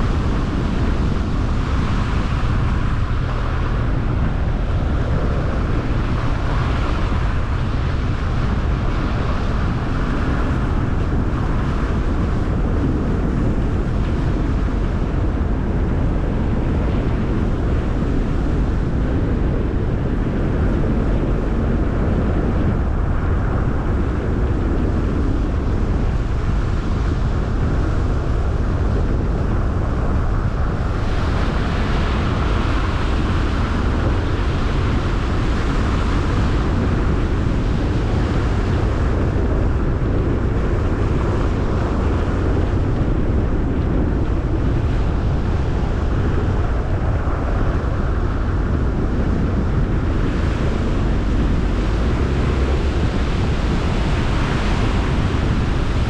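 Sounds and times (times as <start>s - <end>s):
car tyres engine and wind rumble: 0.0s - 56.0s.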